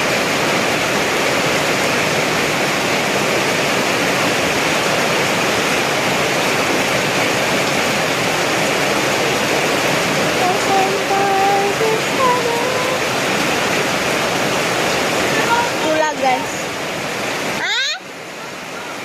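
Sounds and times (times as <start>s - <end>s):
heavy rain and runoff pouring: 0.0s - 19.0s.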